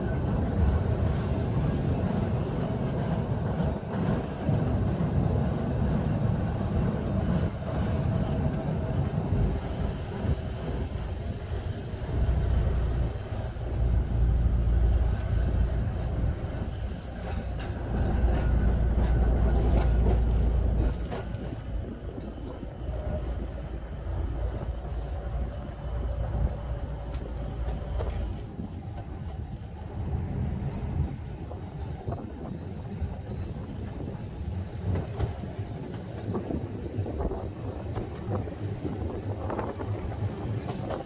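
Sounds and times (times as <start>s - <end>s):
tram clicks: 0.0s - 41.0s
tram running on rails: 0.0s - 41.0s
wind buffeting microphone: 0.0s - 41.0s.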